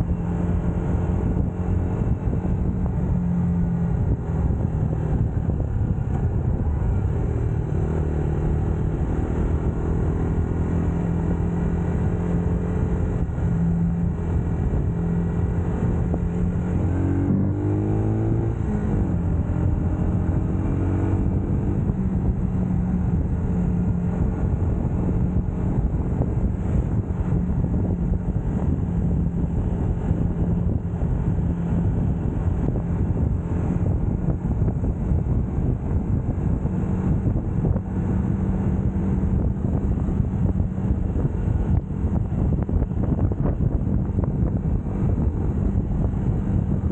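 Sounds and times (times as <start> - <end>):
low wind: 0.0 - 46.9
motorcycle engine cruising: 0.0 - 46.9
road rumble: 0.0 - 46.9.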